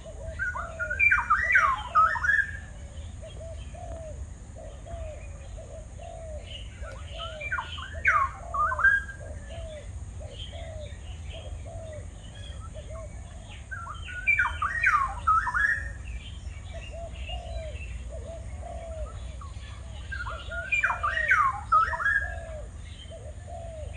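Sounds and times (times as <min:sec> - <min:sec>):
low down-curving bird calls: 0:00.0 - 0:23.9
sweeping whistled bird notes: 0:00.0 - 0:23.9.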